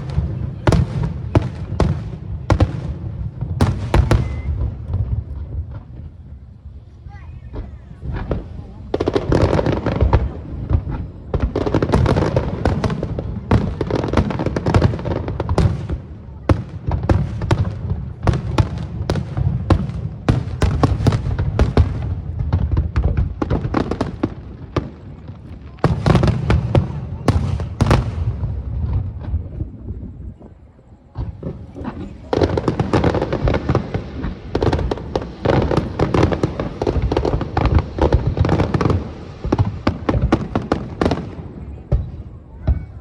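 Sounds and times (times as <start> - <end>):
fireworks bursting: 0.0 - 43.0.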